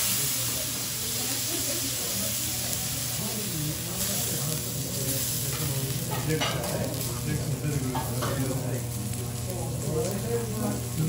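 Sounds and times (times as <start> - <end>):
steak sizzling on a griddle: 0.0 - 11.0.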